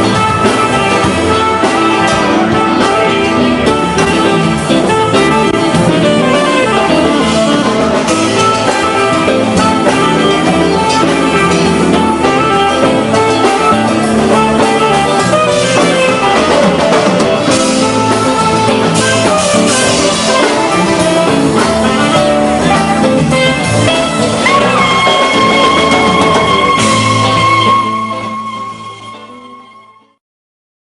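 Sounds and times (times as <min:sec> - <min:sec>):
drum kit: 0:00.0 - 0:29.7
electric guitar: 0:00.0 - 0:30.2.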